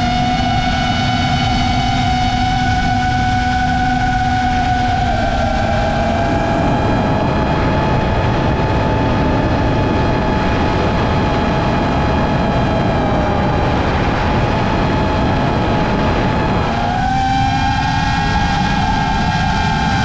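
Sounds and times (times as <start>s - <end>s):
drone motors whining: 0.0s - 20.0s
heavy wind rush: 0.0s - 20.0s.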